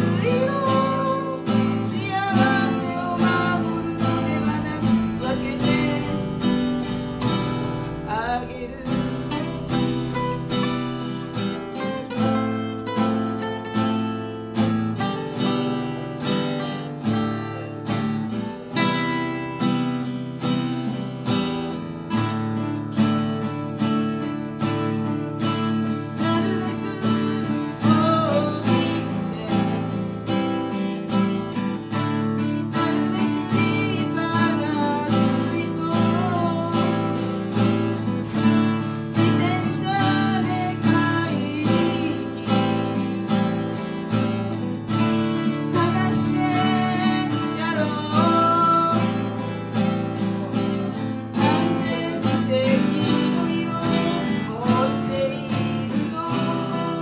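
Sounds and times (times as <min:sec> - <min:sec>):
acoustic guitars strummed and picked: 0:00.0 - 0:57.0.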